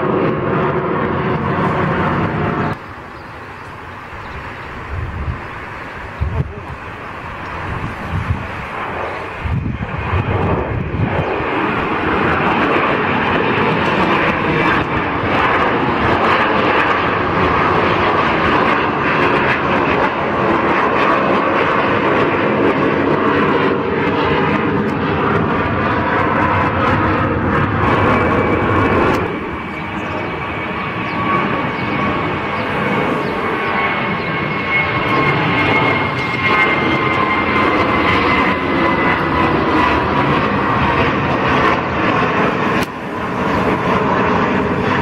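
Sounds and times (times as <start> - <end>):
jet engine rumble: 0.0 - 45.0
quieter jet climbing away: 0.0 - 45.0.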